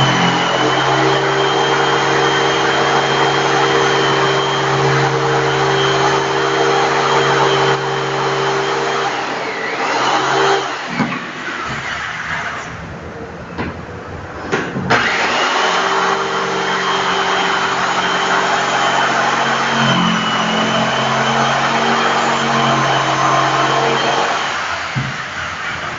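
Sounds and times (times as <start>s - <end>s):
electric jigsaw cutting wood: 0.0s - 12.0s, 14.9s - 25.9s.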